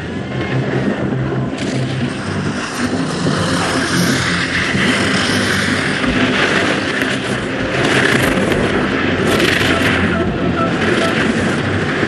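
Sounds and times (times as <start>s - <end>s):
skis scraping on icy snow: 1.6s - 11.8s.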